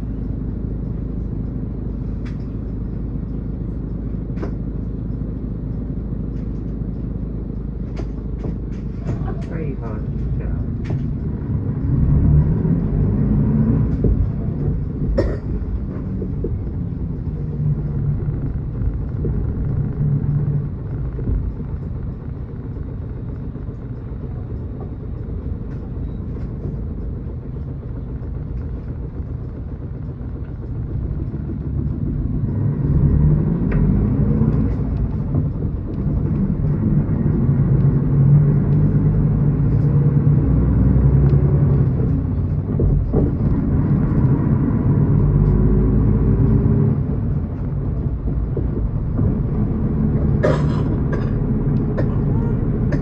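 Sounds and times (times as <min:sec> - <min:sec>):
bus engine from inside: 0:00.0 - 0:53.0.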